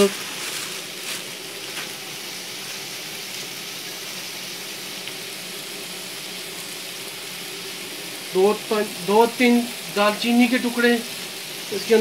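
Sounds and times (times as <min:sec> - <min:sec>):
onions sizzling in a pot: 0:00.0 - 0:12.0.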